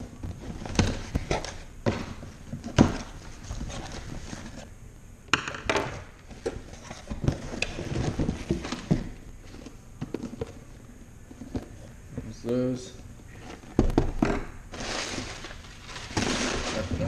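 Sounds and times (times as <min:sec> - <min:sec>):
cardboard flaps rustling: 0:00.0 - 0:04.7, 0:06.2 - 0:11.9, 0:13.5 - 0:17.0.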